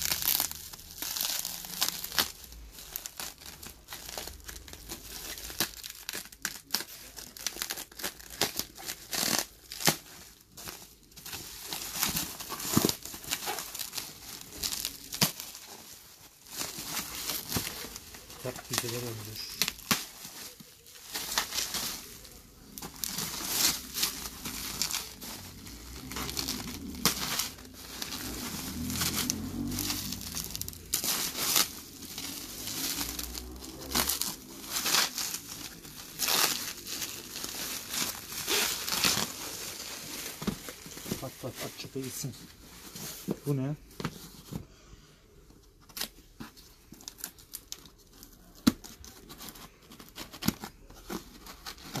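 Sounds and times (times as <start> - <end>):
bubble wrap crackles: 0.0 - 44.7, 45.6 - 52.0
bubble wrap crinkling: 0.0 - 44.8, 45.5 - 52.0.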